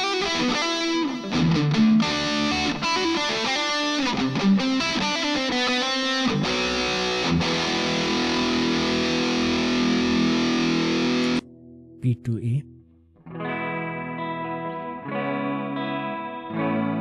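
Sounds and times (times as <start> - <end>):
electric guitar notes and chord: 0.0 - 12.0, 12.7 - 17.0.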